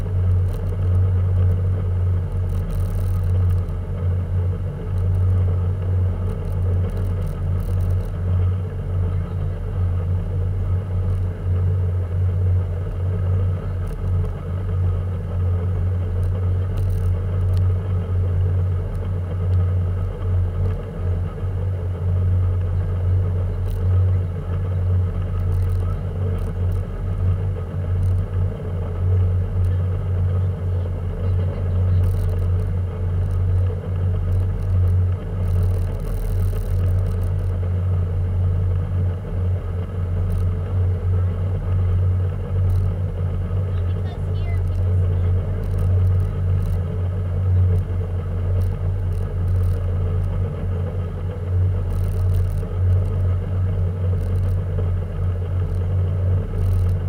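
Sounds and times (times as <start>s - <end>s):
speedboat engine rumble: 0.0s - 57.0s.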